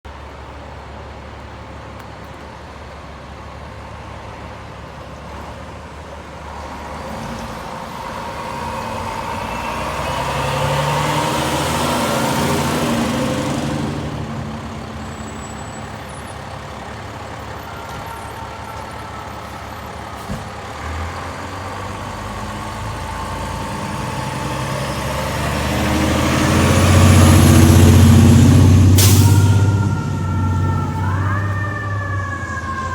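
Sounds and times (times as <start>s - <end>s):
vehicle noise: 0.1s - 32.9s
diesel truck engine idling: 0.2s - 32.9s.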